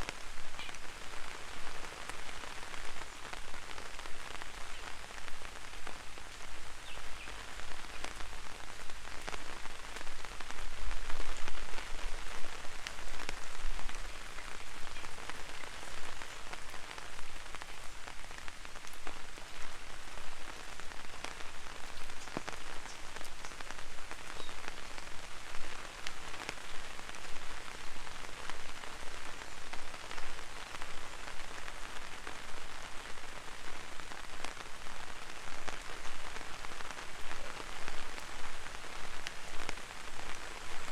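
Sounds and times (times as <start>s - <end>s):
rain on an umbrella: 0.0s - 40.9s.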